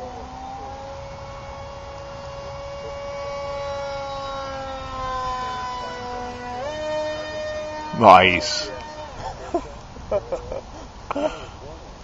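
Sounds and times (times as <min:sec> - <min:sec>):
electric motor and propeller whine: 0:00.0 - 0:10.2.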